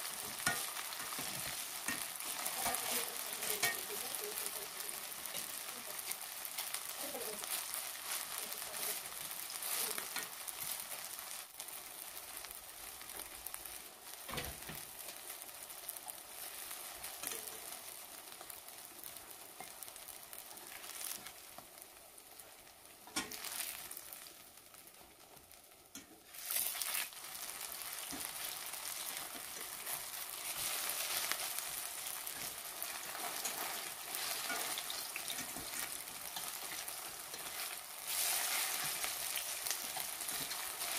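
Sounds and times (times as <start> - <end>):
patties sizzling in oil: 0.0 - 40.9.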